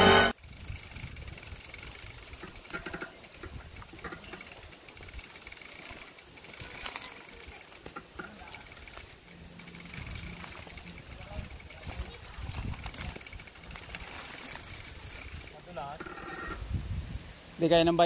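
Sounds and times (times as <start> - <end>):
wind and road rumble: 0.3 - 17.8
small rattles and clicks: 0.4 - 16.6.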